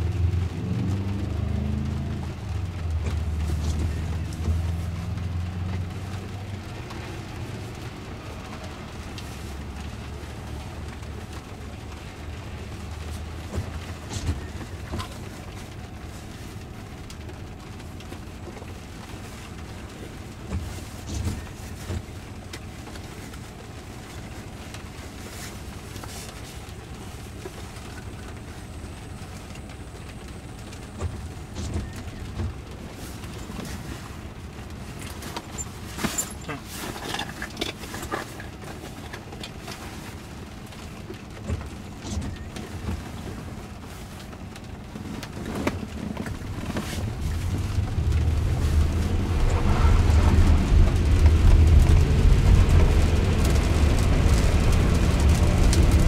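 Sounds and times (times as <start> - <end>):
car pulling away rumble: 0.0 - 56.0
windshield wipers sweeping: 0.0 - 56.0
car cabin hum: 1.8 - 56.0.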